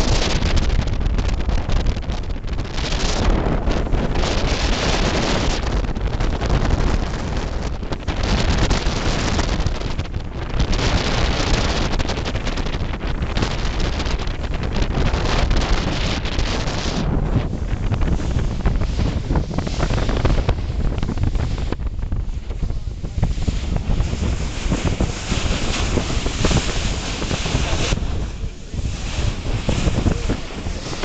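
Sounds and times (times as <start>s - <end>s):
sea water rushing: 0.0s - 31.0s
wind buffeting microphone: 0.0s - 31.0s.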